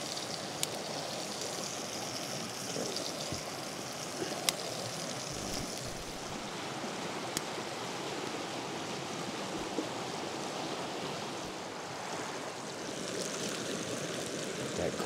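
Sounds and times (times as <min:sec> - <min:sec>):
creek water running: 0:00.0 - 0:15.0.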